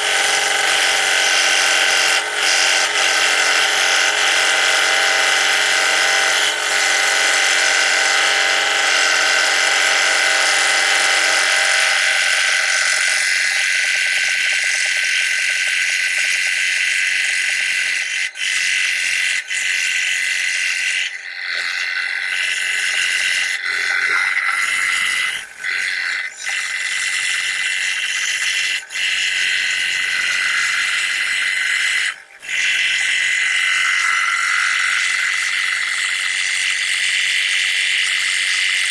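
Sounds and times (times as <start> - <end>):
power tool motor whine: 0.0 - 38.9.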